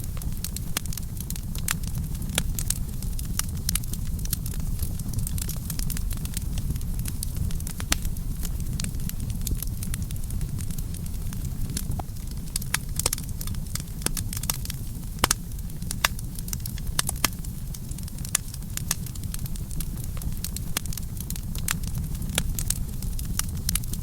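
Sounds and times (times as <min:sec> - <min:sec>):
burning wood crackling and popping: 0:00.0 - 0:24.0
campfire flames rumbling: 0:00.0 - 0:24.0.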